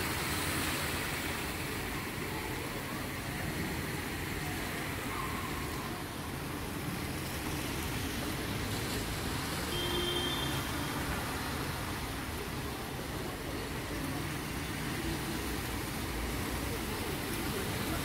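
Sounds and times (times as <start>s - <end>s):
car tyres swishing through water: 0.0s - 18.0s
heavy rain hissing: 0.0s - 18.0s.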